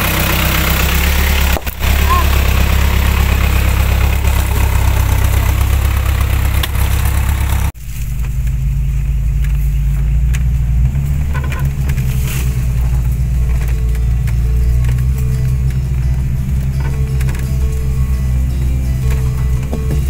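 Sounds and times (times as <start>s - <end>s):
engine heard from inside cab: 0.0s - 20.0s
engine running low and steady: 0.0s - 20.0s.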